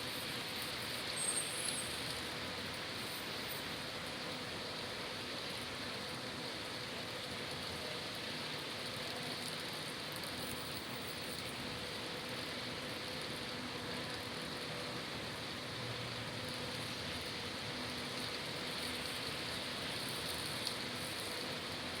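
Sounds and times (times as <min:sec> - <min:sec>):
rain falling on street: 0:00.0 - 0:22.0.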